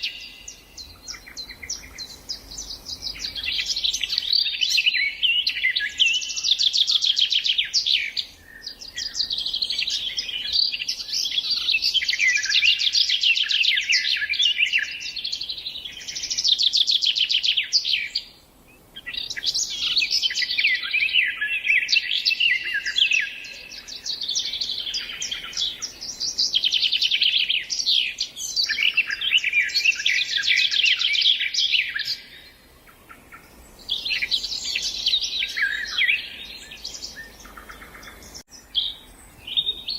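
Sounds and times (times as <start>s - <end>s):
songbird twittering and trilling: 0.0s - 39.9s.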